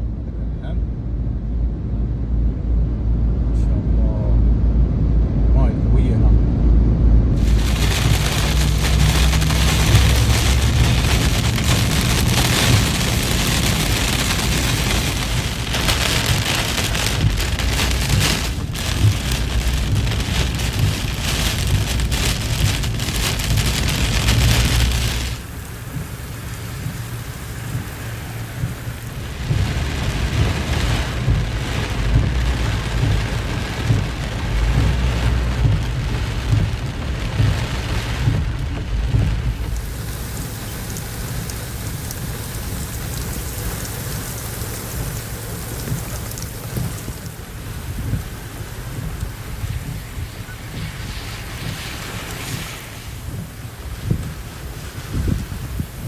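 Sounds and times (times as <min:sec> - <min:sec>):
low rumble: 0:00.0 - 0:56.0
heavy rain pouring: 0:07.3 - 0:56.0.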